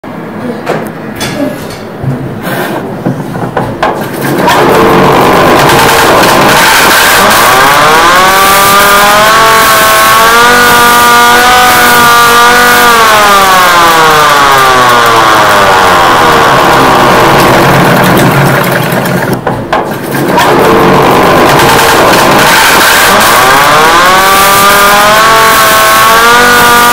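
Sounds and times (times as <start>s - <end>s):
distorted siren tone: 4.3s - 19.4s, 20.3s - 26.9s.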